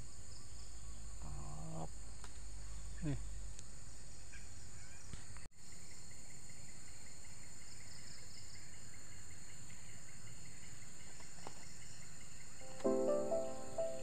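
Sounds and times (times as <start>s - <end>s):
insect chirps: 0.0s - 14.0s
insects trilling: 0.0s - 14.0s.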